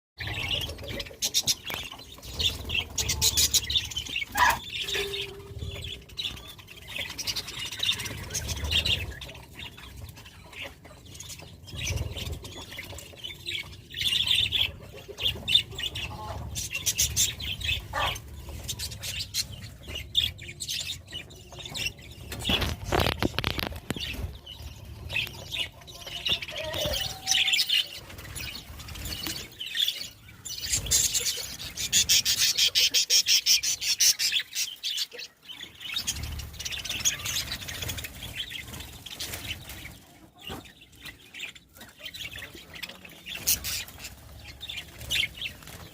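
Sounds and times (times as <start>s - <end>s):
budgerigars chirping: 0.2s - 39.8s.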